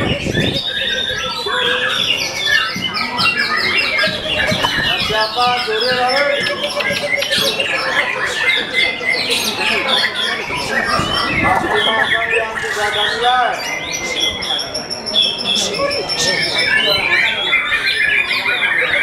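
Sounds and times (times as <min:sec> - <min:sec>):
songbirds singing: 0:00.0 - 0:19.0.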